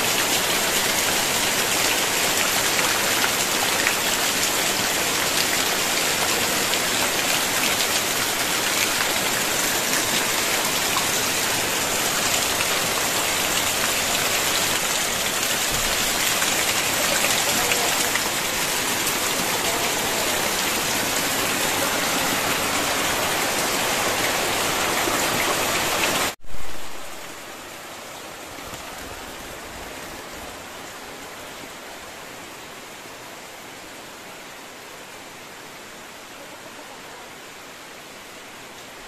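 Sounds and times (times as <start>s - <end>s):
heavy rain hiss: 0.0s - 39.0s.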